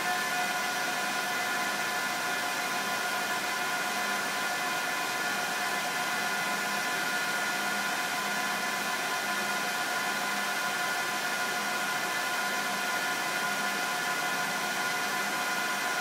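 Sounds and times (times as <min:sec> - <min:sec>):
server cooling fans whirring: 0:00.0 - 0:16.0.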